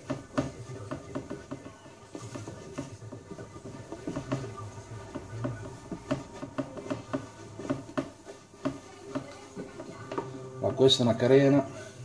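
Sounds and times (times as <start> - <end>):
hands tapping plastic fairing: 0.0 - 10.3.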